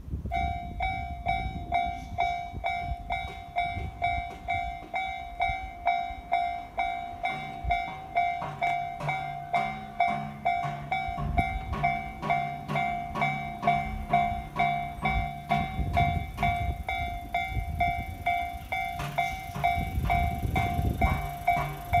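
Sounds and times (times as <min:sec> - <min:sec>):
level crossing warning bell: 0:00.2 - 0:22.0.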